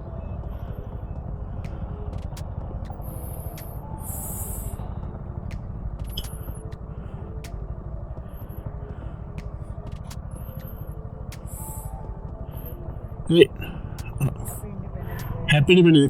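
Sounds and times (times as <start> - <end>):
light ticks: 0.0 - 15.4
motorcycle engine rumble: 0.0 - 16.0.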